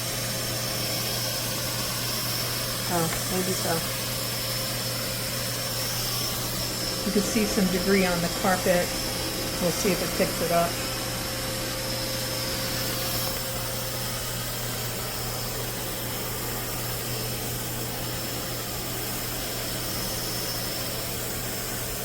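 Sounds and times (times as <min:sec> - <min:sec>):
robot vacuum running on carpet: 0:00.0 - 0:17.6.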